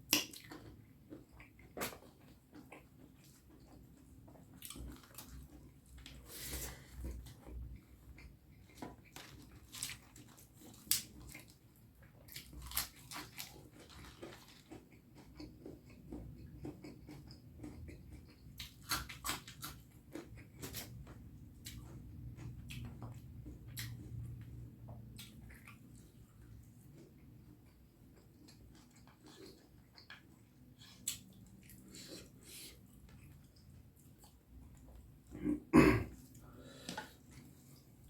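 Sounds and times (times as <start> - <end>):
chewing and wet mouth noises: 0.0 - 35.4.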